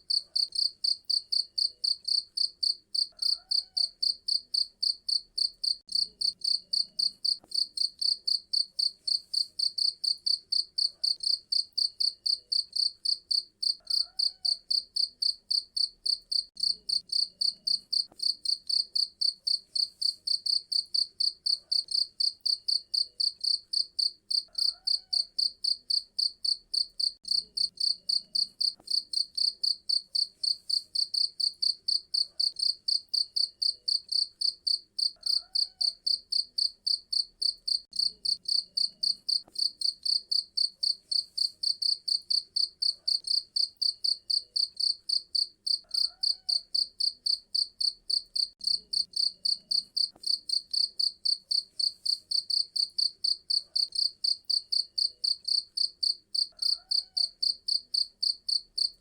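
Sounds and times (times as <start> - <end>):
cricket chirping: 0.1 - 59.0.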